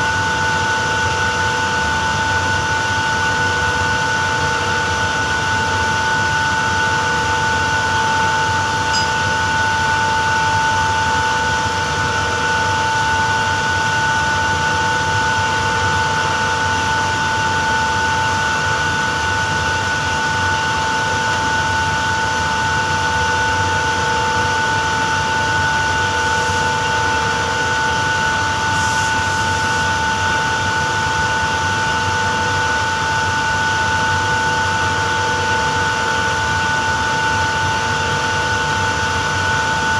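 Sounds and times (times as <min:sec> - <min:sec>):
ventilation machinery hiss and whine: 0:00.0 - 0:39.9.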